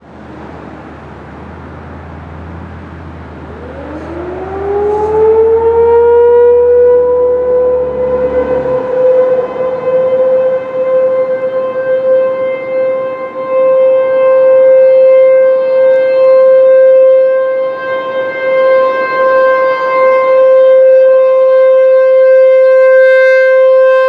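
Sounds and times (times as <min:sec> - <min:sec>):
warning siren winding up: 0:03.4 - 0:24.0.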